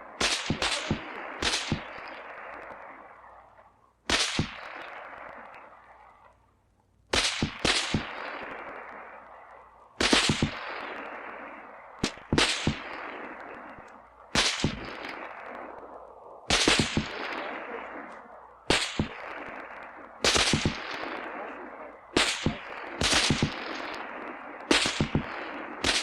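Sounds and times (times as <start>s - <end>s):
distant gunshots with echo: 0.0s - 6.3s, 7.1s - 26.0s.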